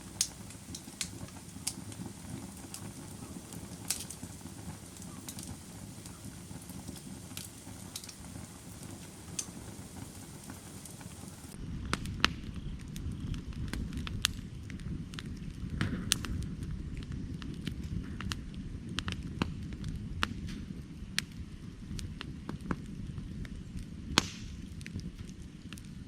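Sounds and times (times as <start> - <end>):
low rumble of flames: 0.0 - 26.0
wood crackling and popping: 0.0 - 26.0.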